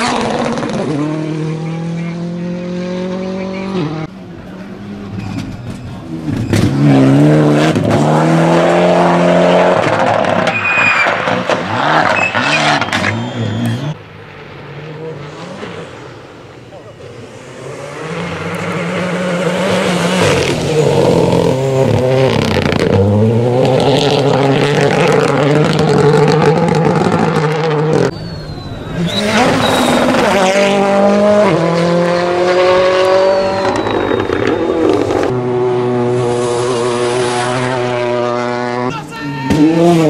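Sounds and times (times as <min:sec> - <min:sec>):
rally car engine at full throttle: 0:00.0 - 0:40.0.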